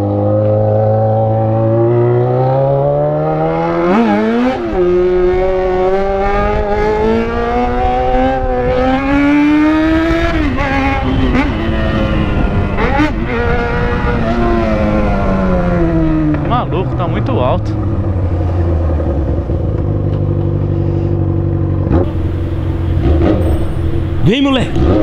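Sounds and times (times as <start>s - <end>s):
loud motorcycle engine revving: 0.0s - 21.1s, 21.8s - 25.0s.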